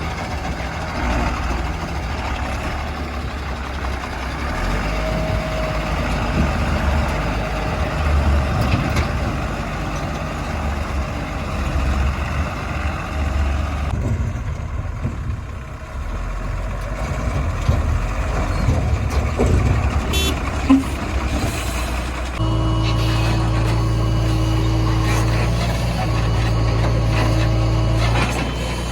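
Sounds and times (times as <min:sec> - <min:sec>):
heavy diesel engine working: 0:00.0 - 0:28.9.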